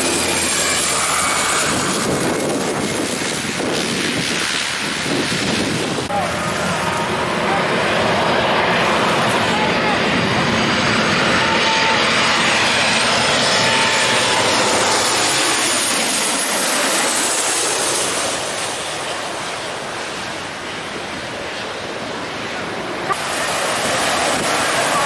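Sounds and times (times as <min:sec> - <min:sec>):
faint high engine whine: 0:00.0 - 0:25.0
jet airliner passing overhead: 0:00.0 - 0:25.0.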